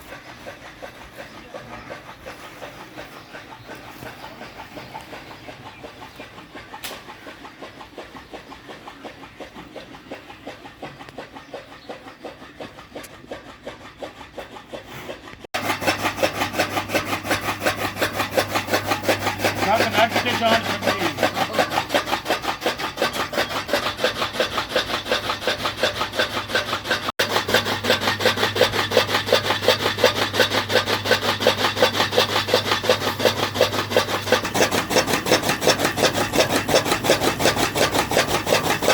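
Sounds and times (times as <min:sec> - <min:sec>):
rasping sawing strokes: 0:00.0 - 0:38.9.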